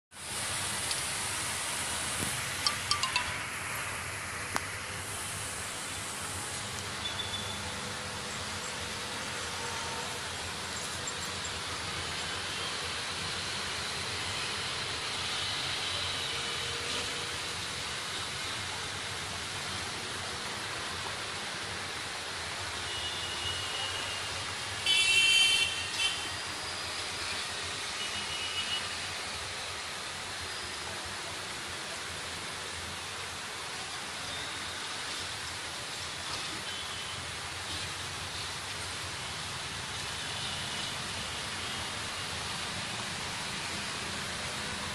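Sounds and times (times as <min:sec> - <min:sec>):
city ambient hiss: 0:00.1 - 0:44.9.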